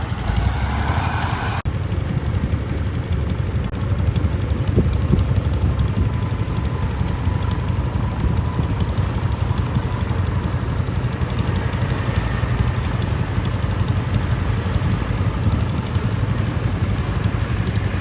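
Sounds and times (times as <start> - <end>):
continuous rattling clatter: 0.0 - 18.0
farm machine engine droning: 0.0 - 18.0.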